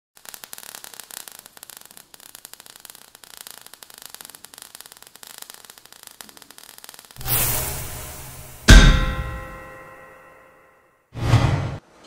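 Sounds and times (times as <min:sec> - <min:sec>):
sparks crackling and hissing: 0:00.2 - 0:09.8.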